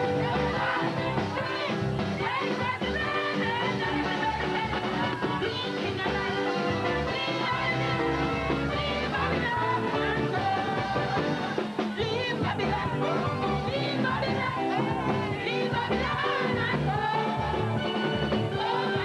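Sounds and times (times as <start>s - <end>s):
band playing: 0.0s - 19.0s
person singing gospel song: 0.0s - 19.0s.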